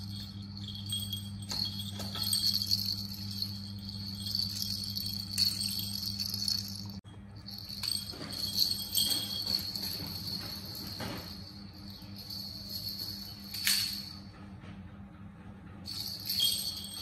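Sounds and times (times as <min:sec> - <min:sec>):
bell rattle toy jingling: 0:00.0 - 0:14.1, 0:15.9 - 0:17.0.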